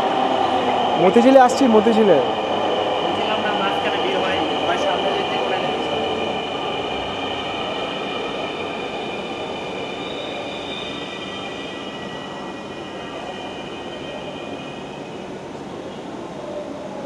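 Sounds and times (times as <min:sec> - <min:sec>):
electric train pulling in: 0:00.0 - 0:17.0.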